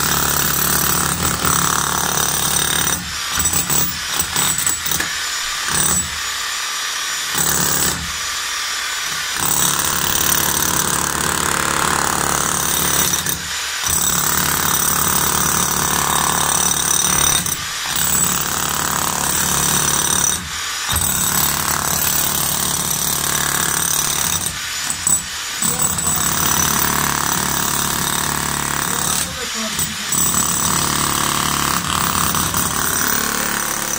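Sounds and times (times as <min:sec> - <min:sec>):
demolition hammer breaking concrete: 0:00.0 - 0:06.3, 0:07.3 - 0:08.2, 0:09.1 - 0:33.9.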